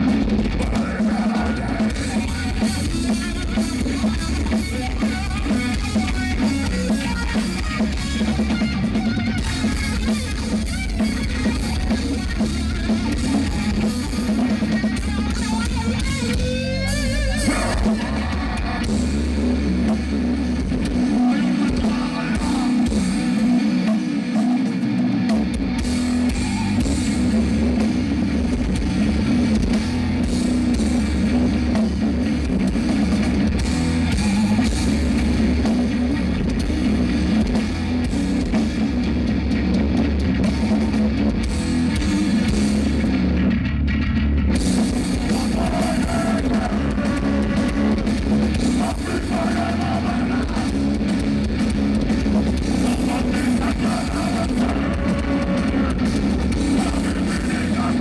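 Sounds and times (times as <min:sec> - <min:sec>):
deep bass: 0:00.0 - 0:58.0
drum kit: 0:00.0 - 0:58.0
electric guitar: 0:00.0 - 0:58.0.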